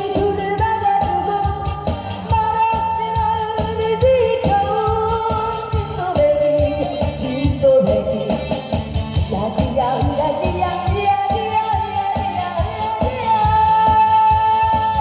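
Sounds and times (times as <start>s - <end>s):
backing band with steady beat: 0.0s - 15.0s
woman singing: 0.0s - 15.0s.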